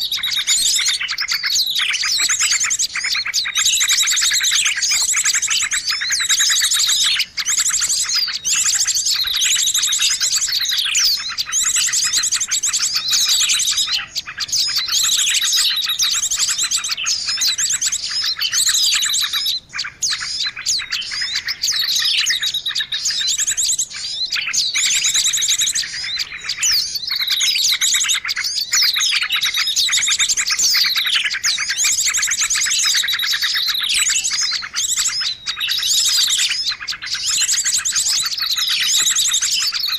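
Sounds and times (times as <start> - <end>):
falling bird calls: 0.0 - 39.9
songbirds chirping and trilling: 0.0 - 39.9.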